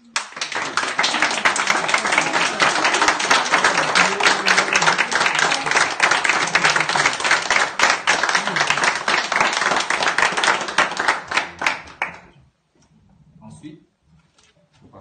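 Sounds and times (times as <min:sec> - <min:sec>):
small crowd clapping: 0:00.0 - 0:12.4.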